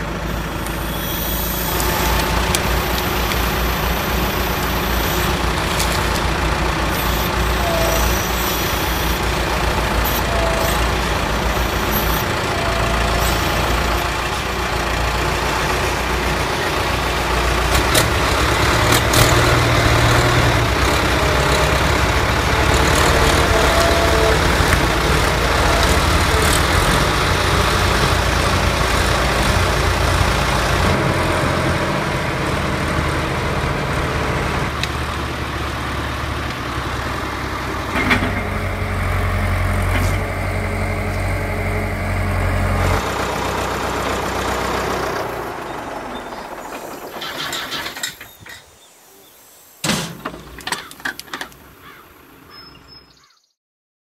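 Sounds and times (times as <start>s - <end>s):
diesel tractor engine running: 0.0s - 48.8s, 49.9s - 53.4s.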